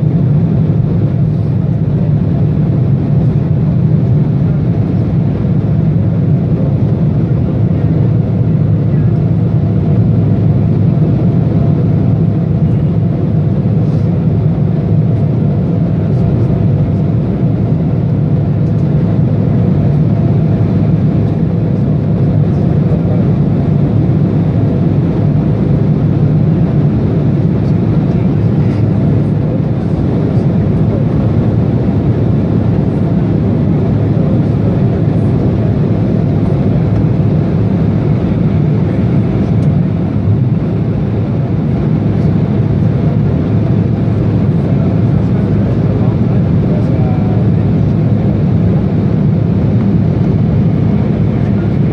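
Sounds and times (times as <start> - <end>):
jet engines roaring: 0.0 - 51.9.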